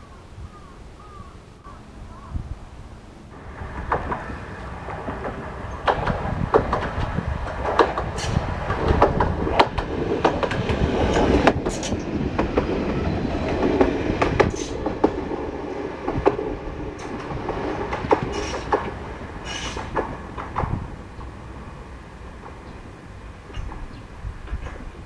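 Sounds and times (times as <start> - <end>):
tram passing: 1.1 - 25.0
tram wheels clicking over rail joints: 3.3 - 25.0.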